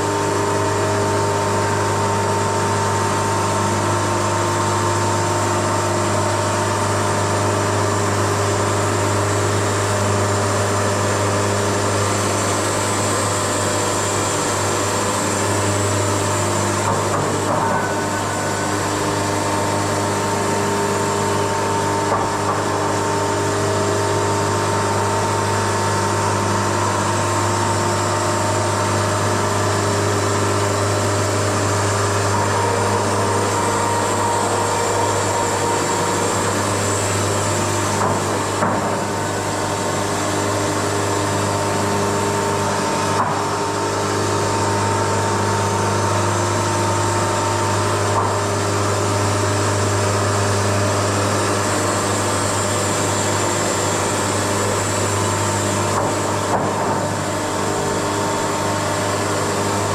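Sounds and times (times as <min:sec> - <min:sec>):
band sawmill humming: 0:08.1 - 0:59.9.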